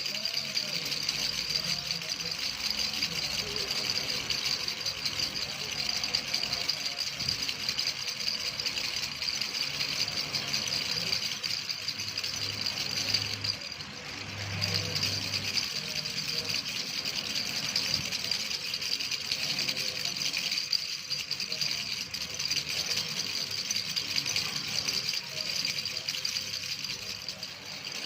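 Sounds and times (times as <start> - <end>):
baby rattle shaking: 0.0 - 28.0.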